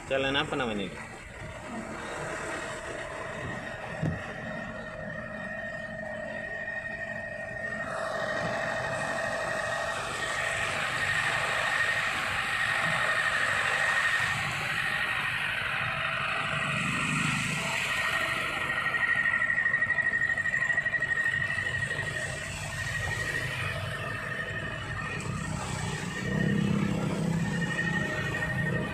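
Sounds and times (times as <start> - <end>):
high-pitched whine: 0.0 - 28.9
road traffic noise: 0.0 - 28.9.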